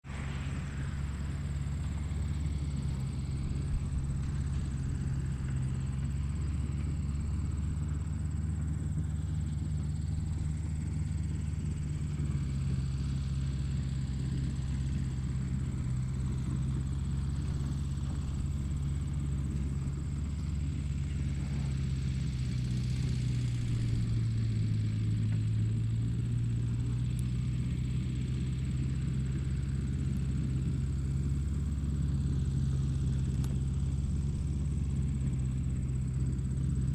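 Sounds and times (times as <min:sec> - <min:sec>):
motor droning hum: 0:00.0 - 0:36.9.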